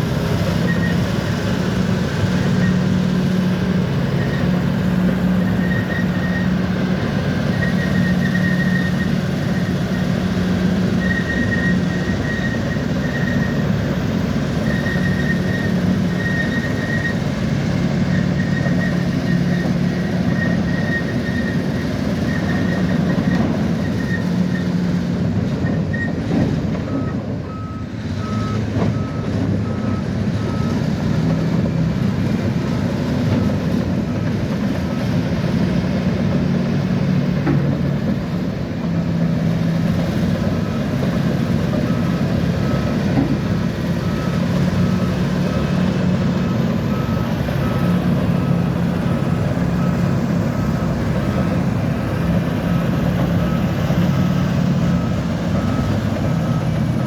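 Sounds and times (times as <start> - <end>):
bulldozer diesel engine running: 0.0 - 57.0
reversing alarm beeping: 0.2 - 24.7, 26.8 - 31.7, 40.3 - 57.0.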